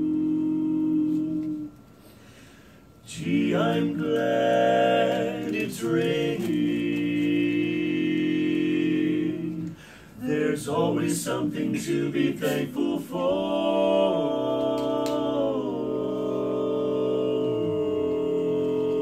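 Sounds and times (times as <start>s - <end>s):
male quartet singing a cappella: 0.0s - 1.8s, 3.0s - 19.0s.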